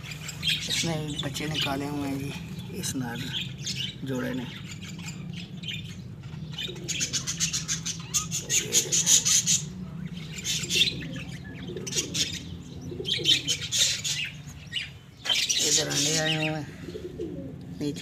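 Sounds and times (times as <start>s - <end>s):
pigeons cooing: 0.0s - 18.0s
steady low hum: 0.0s - 18.0s.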